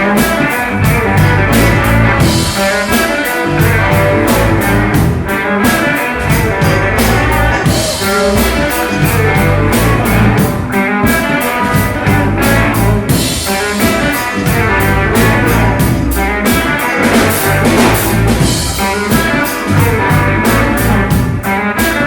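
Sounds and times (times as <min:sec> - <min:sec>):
blues-rock band playing: 0:00.0 - 0:22.0
electric guitar: 0:00.0 - 0:22.0
steady drum beat: 0:00.0 - 0:22.0.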